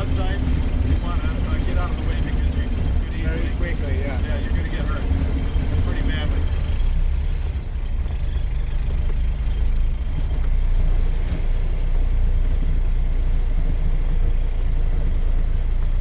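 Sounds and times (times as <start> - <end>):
truck engine rumbling while driving: 0.0 - 16.0.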